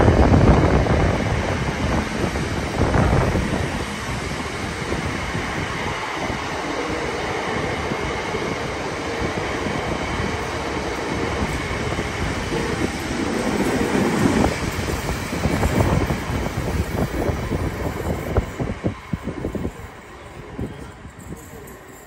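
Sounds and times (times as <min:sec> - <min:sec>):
train passing with wheels on rail: 0:00.0 - 0:22.0.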